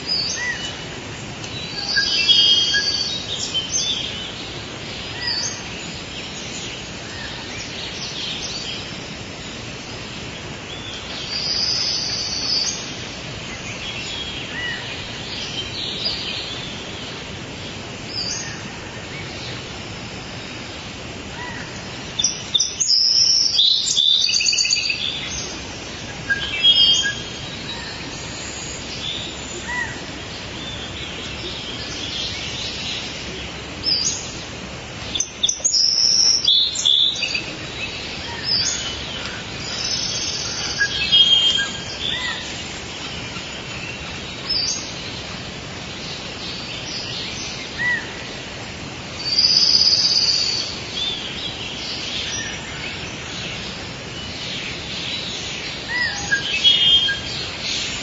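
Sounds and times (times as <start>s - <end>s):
birds chirping and singing: 0.0s - 19.8s, 20.4s - 58.0s
steady hiss: 0.0s - 58.0s.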